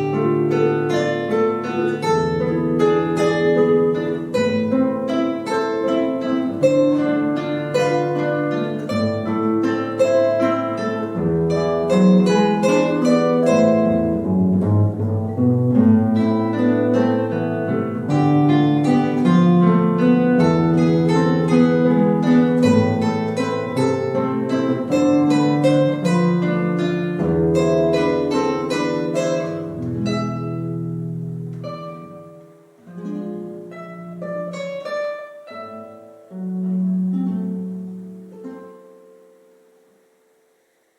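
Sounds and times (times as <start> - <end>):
plucked string melody: 0.0 - 40.8.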